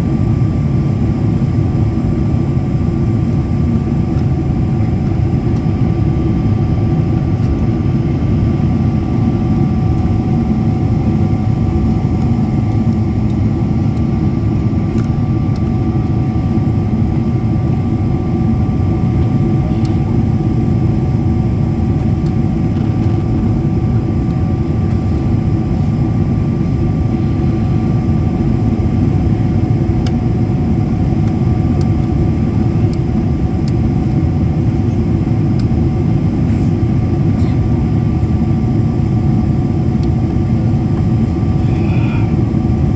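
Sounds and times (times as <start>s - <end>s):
airliner cabin engine roar: 0.0s - 42.9s.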